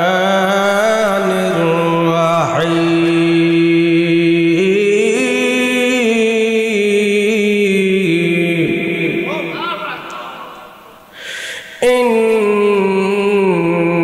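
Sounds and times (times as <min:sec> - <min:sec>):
man chanting recitation: 0:00.0 - 0:10.9, 0:11.8 - 0:14.0.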